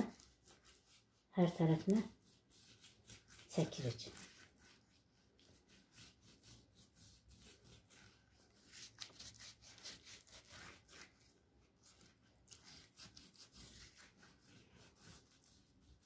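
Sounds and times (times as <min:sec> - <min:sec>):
pastry brush swishing: 0:00.0 - 0:16.0.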